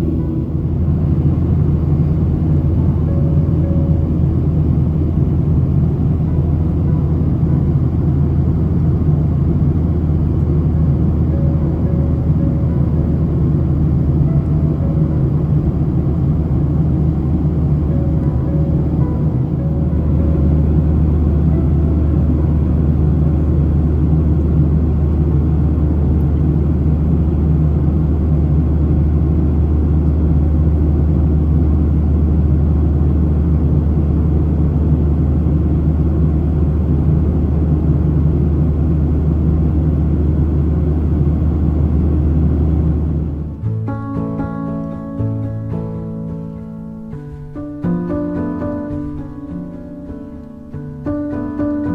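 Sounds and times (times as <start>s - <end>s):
airplane cabin engine drone: 0.0s - 51.9s.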